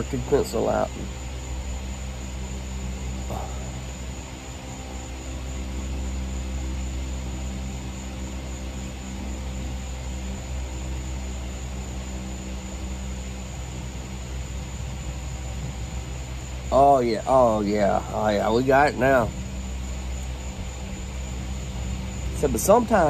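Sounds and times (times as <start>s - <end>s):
low mechanical drone: 0.0s - 23.0s.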